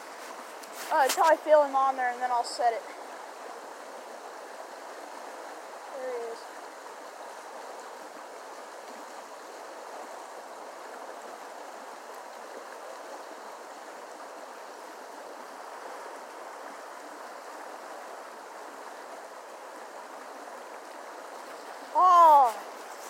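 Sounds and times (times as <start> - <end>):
creek water running over rocks: 0.0 - 23.0.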